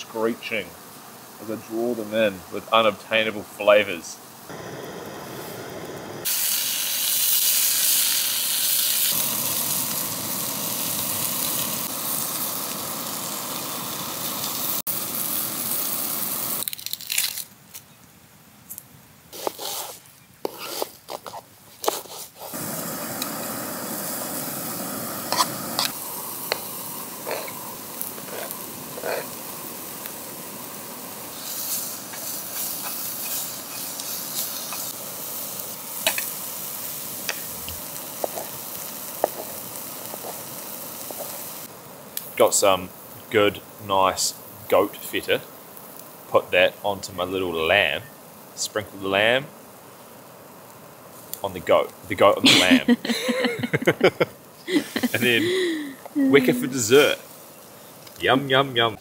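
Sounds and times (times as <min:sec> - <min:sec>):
onion frying: 0:00.0 - 0:17.9, 0:18.6 - 0:59.0
meat sizzling in a frying pan: 0:03.7 - 0:17.4, 0:22.4 - 0:58.5.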